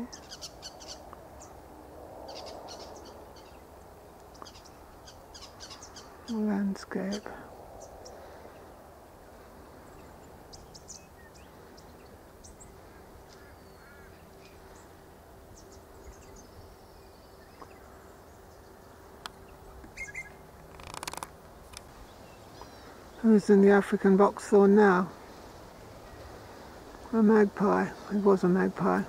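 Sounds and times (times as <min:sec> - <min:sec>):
distant bird chirps: 0:00.0 - 0:01.6, 0:02.2 - 0:29.0.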